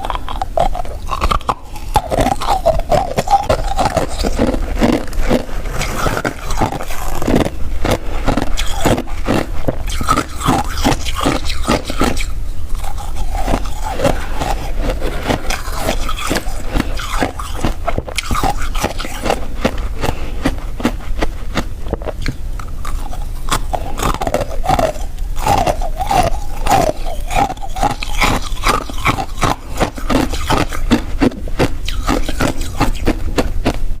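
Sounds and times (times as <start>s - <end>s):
frost being chewed: 0.0s - 33.9s.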